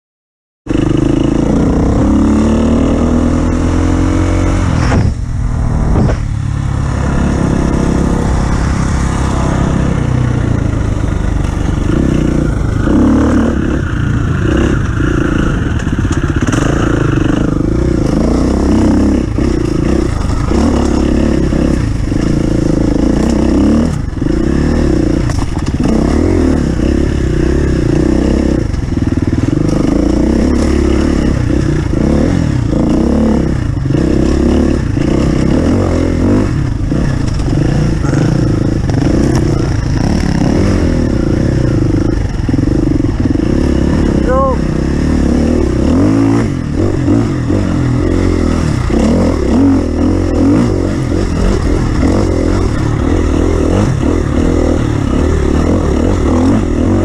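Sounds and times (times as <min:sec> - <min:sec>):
off-road vehicle engine revving: 0:00.7 - 0:57.0.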